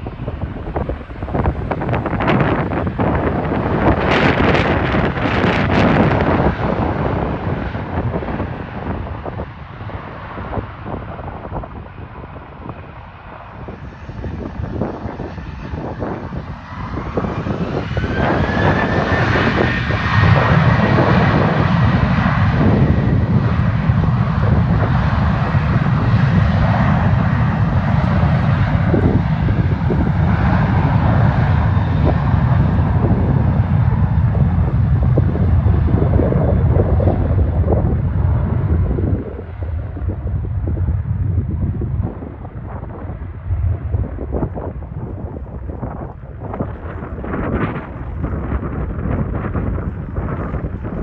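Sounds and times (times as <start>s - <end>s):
jet engines whining and rumbling: 0.0s - 51.0s.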